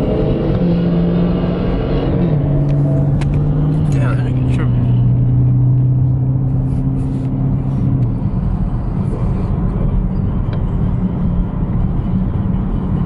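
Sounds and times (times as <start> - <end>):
steady low engine hum: 0.0 - 13.0
rough low engine rumble: 2.3 - 13.0.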